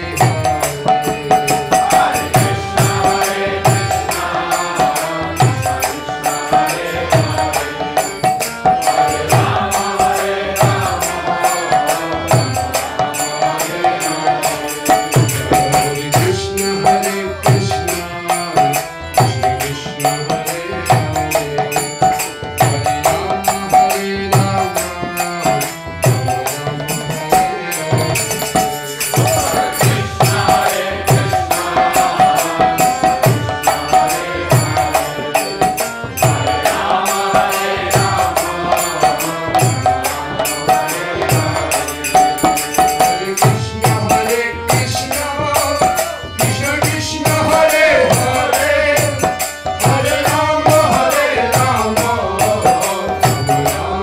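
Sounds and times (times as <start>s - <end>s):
group singing a chant: 0.0s - 54.0s
harmonium chords: 0.0s - 54.0s.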